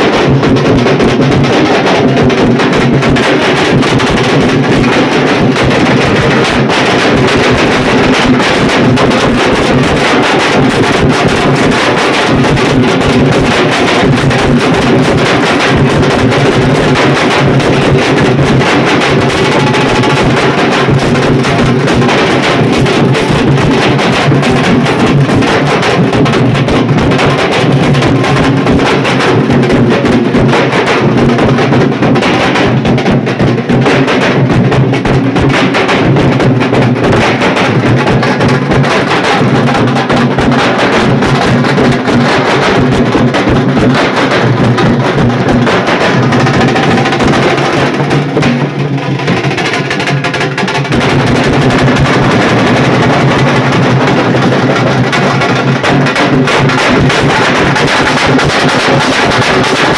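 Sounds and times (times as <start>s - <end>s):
drums beaten with sticks: 0.0s - 59.9s.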